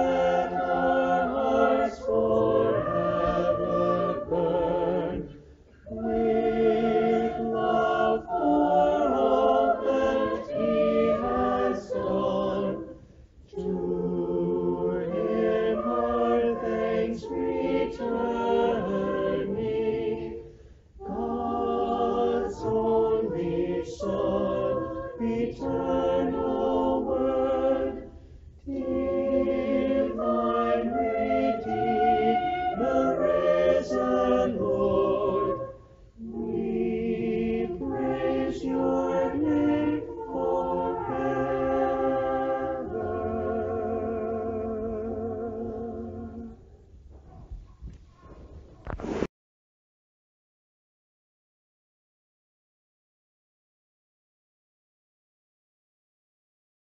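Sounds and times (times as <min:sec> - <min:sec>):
church choir singing: 0:00.0 - 0:46.7.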